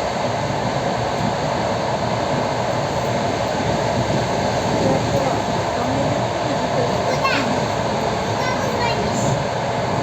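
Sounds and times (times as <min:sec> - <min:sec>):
wheels rumbling on rails: 0:00.0 - 0:10.0.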